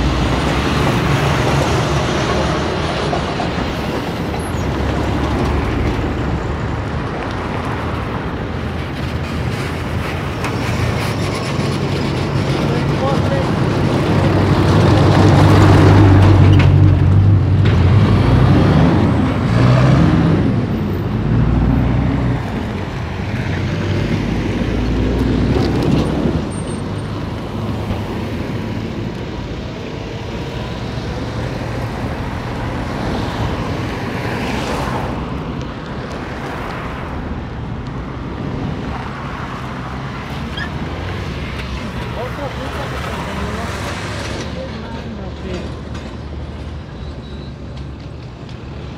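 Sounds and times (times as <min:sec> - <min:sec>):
road noise of passing vehicles: 0:00.0 - 0:48.9.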